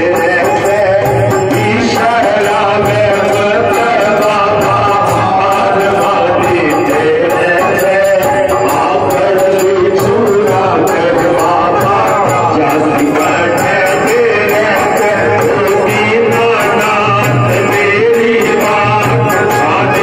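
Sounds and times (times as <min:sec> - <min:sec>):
person singing devotional song: 0:00.0 - 0:20.0
steady percussion: 0:00.0 - 0:20.0.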